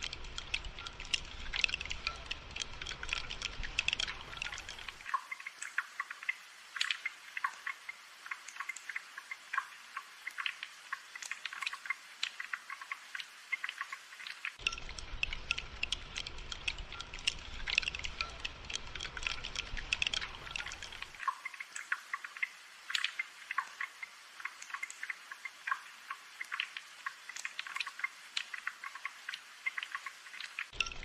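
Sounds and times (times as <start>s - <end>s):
rain drops tapping: 0.0s - 31.0s.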